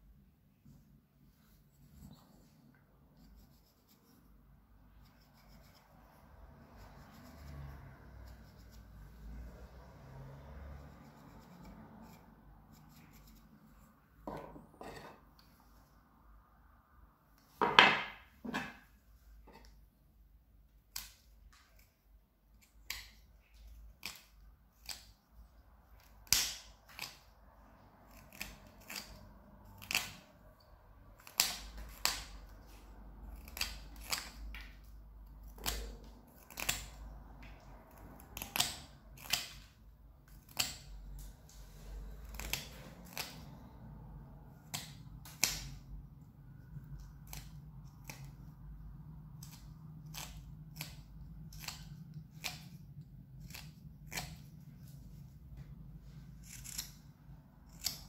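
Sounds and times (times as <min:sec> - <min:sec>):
knife carving wood: 0:01.4 - 0:15.2, 0:17.6 - 0:19.9, 0:20.6 - 0:55.4, 0:56.1 - 0:58.0.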